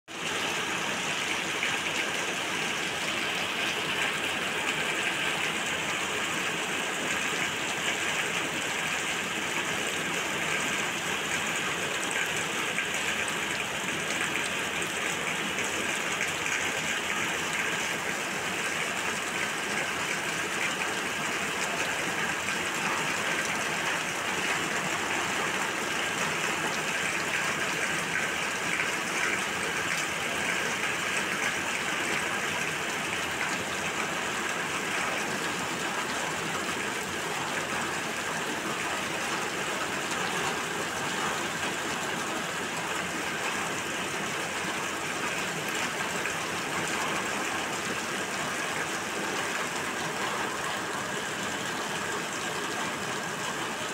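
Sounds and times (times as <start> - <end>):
heavy rain: 0.1 - 53.9.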